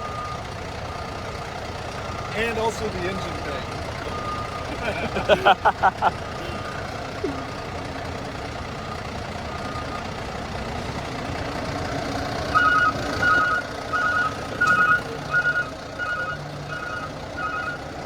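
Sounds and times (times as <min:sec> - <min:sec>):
truck engine running: 0:00.0 - 0:18.0
truck reversing alarm beeping: 0:00.0 - 0:18.0.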